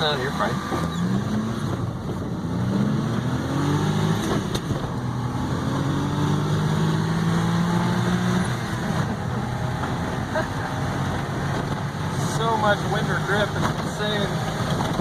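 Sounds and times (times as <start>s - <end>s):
truck engine accelerating: 0.0s - 15.0s.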